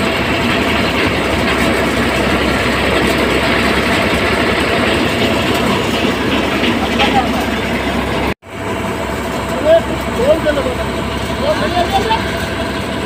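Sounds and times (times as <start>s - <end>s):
tractor driving a thresher: 0.0s - 13.0s.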